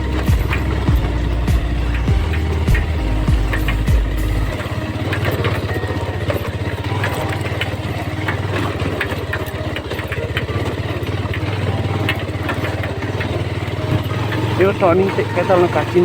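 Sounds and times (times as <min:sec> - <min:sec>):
motorcycle engine chugging: 0:00.0 - 0:16.0.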